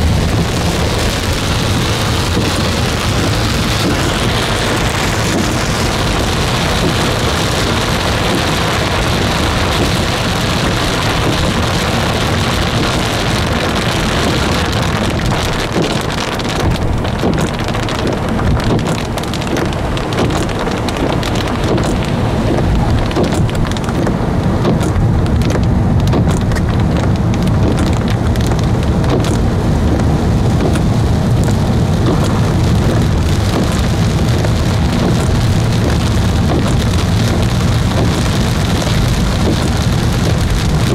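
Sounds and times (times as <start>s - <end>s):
deep rumble: 0.0s - 40.9s
heavy rain: 0.0s - 40.9s.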